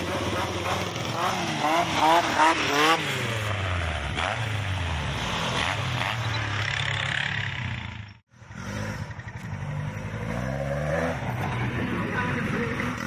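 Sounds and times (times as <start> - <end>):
vehicle engine running and revving: 0.0 - 13.0.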